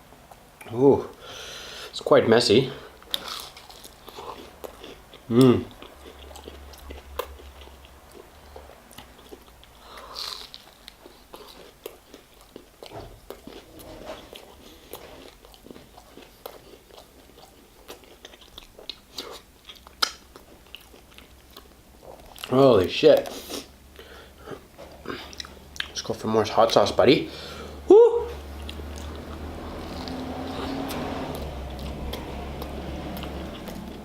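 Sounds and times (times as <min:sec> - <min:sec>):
wet chewing crunching: 0:03.0 - 0:26.9, 0:28.3 - 0:34.0.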